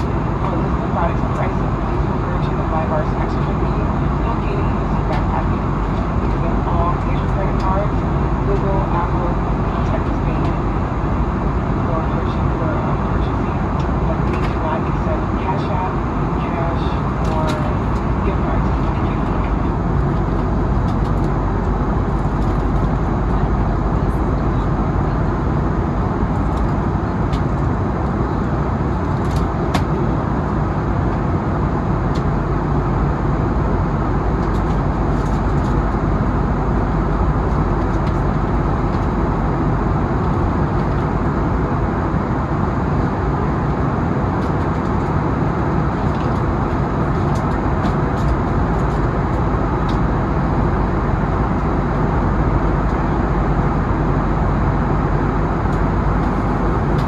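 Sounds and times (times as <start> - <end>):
jet engine and airflow in cabin: 0.0 - 57.0.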